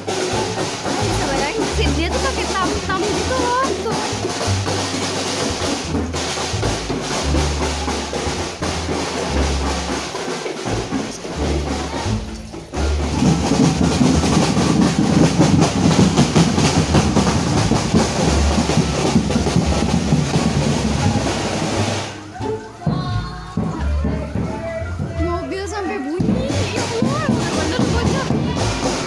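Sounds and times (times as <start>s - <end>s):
drums with heavy bass beat: 0.0s - 29.0s.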